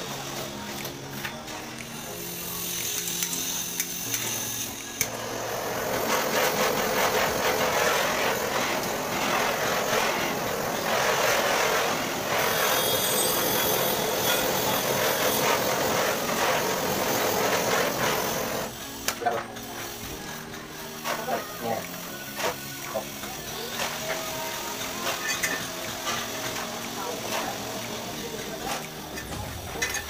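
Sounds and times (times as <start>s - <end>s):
torch flame hissing: 0.0s - 30.0s.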